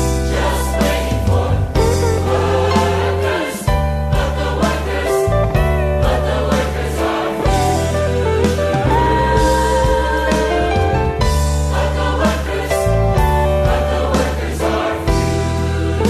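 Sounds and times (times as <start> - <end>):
choir singing: 0.0 - 16.0
music with sustained bass notes: 0.0 - 16.0.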